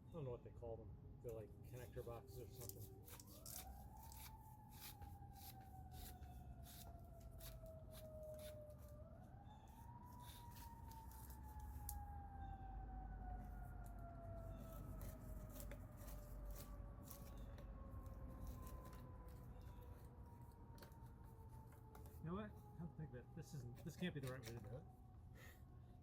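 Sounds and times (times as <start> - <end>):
faint siren wailing: 0.0 - 26.0.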